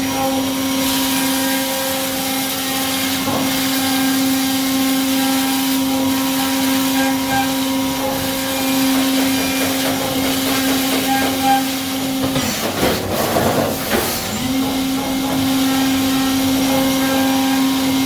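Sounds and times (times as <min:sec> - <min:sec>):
milling machine spindle whine: 0:00.0 - 0:18.0.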